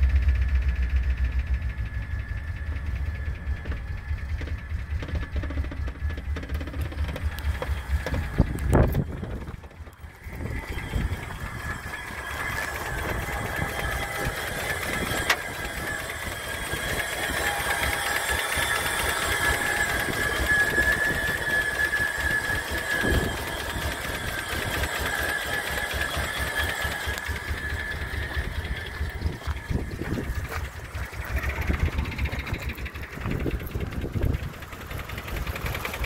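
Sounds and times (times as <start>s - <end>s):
engine idling: 0.0s - 36.0s
steady high whine: 0.0s - 36.0s.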